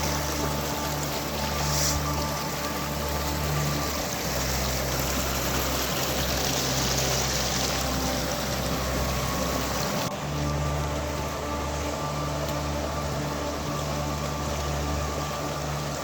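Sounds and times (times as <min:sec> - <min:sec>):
low steady hum: 0:00.0 - 0:16.0
stream water flowing: 0:00.0 - 0:16.0.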